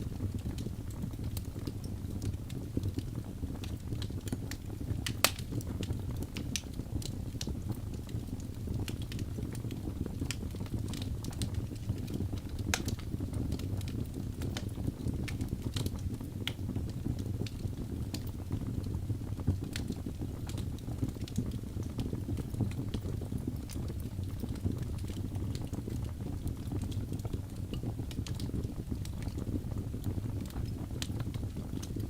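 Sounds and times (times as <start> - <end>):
flames rumbling: 0.0 - 32.0
logs crackling and popping: 0.0 - 32.0.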